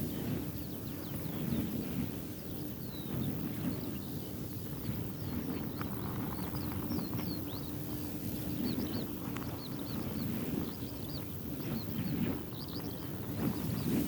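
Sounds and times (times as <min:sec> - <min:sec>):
small birds chirping: 0:00.0 - 0:14.0
veil flapping in wind: 0:00.0 - 0:14.0
wind rumbling on microphone: 0:00.0 - 0:14.0.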